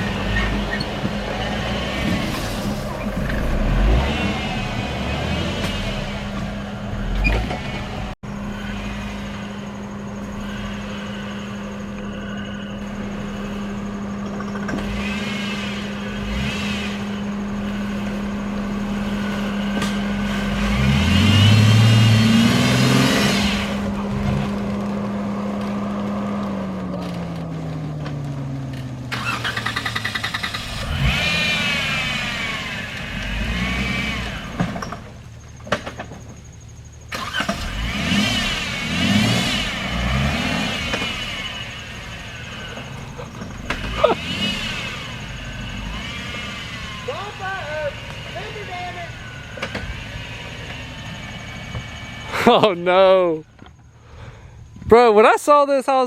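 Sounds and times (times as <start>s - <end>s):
car engine revving: 0.0s - 54.8s.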